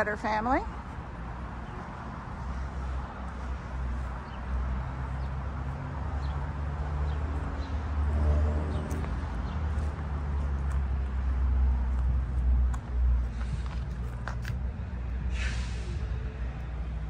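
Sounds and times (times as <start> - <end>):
low traffic rumble: 0.0 - 17.0
vehicle engine passing: 0.8 - 17.0.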